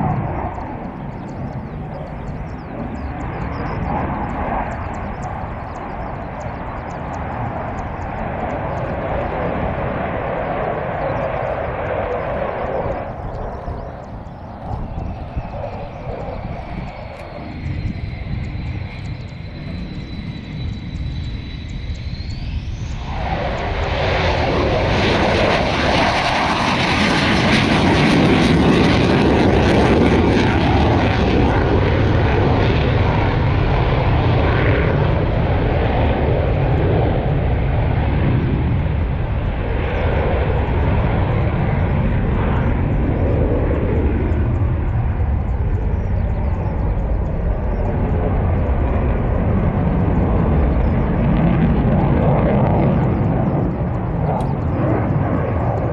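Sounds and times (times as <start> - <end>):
jet engine whine and rumble: 0.0 - 55.9.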